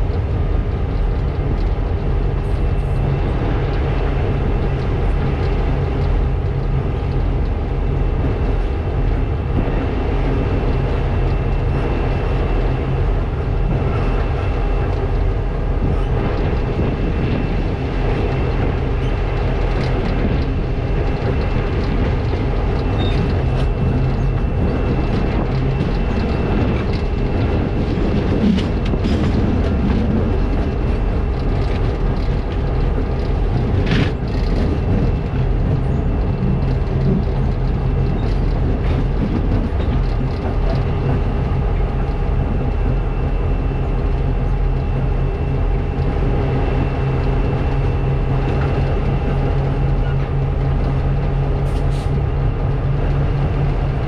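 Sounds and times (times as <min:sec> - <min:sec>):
diesel locomotive engines running: 0:00.0 - 0:54.0
train wheels on rails: 0:00.0 - 0:54.0.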